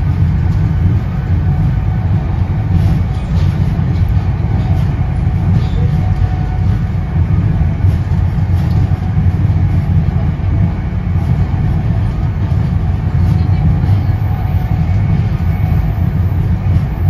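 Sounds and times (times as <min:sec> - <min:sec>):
train coach rumble: 0:00.0 - 0:17.0.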